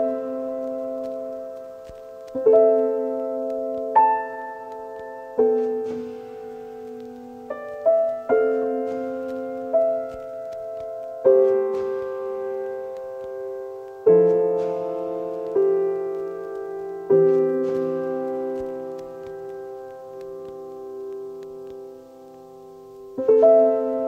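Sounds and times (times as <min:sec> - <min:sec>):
slow piano piece: 0:00.0 - 0:24.0.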